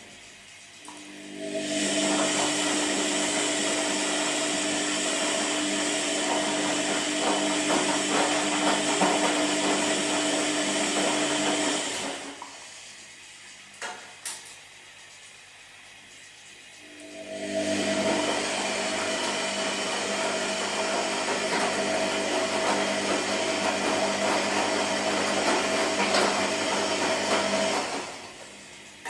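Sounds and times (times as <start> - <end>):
washing machine motor hum: 0.0 - 29.0.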